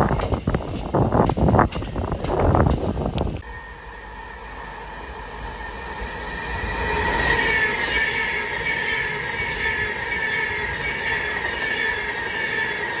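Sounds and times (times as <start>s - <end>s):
high whine of train: 0.0s - 13.0s
passenger train passing: 0.0s - 13.0s.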